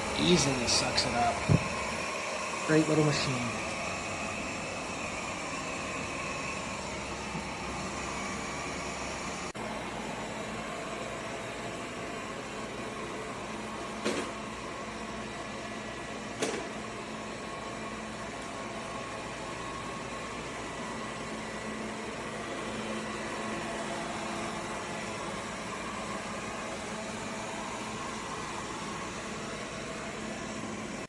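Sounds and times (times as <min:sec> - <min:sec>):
robot vacuum motor and fan: 0:00.0 - 0:31.0.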